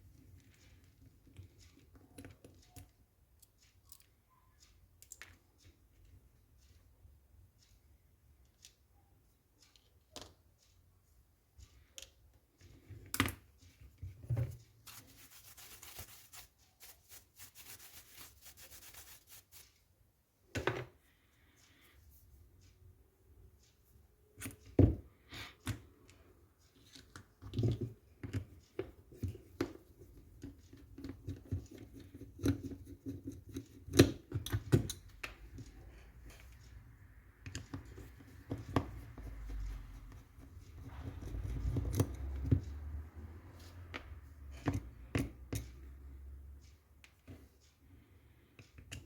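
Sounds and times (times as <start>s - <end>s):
small parts and tools clicking: 0.1s - 19.9s, 25.5s - 49.0s.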